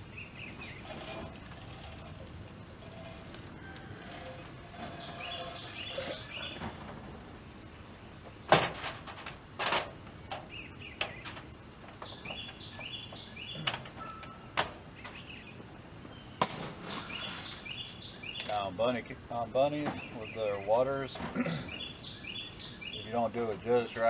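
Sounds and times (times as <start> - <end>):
small birds chirping: 0.0 - 8.5, 10.0 - 24.0.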